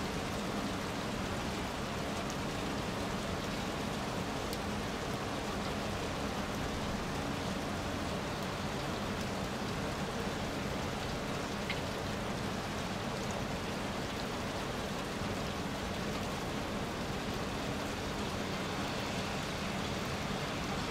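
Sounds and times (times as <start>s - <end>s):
rain on rock and grass: 0.0s - 20.9s.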